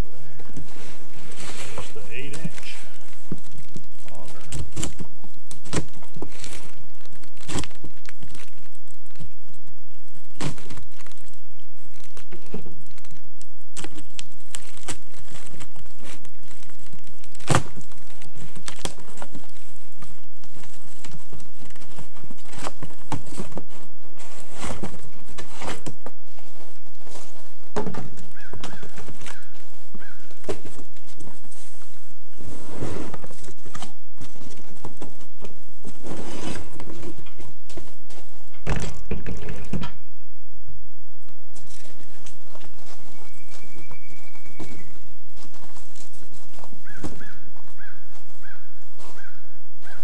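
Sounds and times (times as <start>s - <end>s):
cardboard crinkling and tearing: 0.2s - 39.7s, 41.5s - 50.0s.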